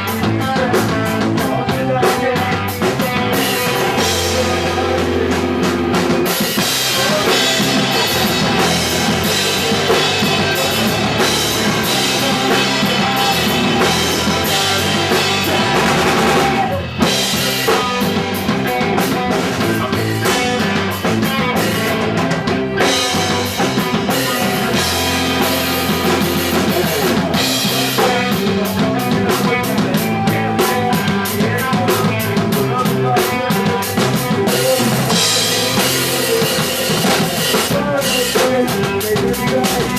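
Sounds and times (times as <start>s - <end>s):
drum kit: 0.0s - 39.9s
punk rock band playing live: 0.0s - 39.9s.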